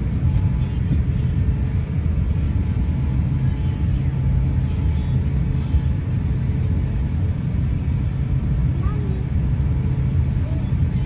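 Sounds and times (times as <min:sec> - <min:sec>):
aircraft cabin engine rumble: 0:00.0 - 0:11.0
faint steady hum: 0:00.0 - 0:11.0.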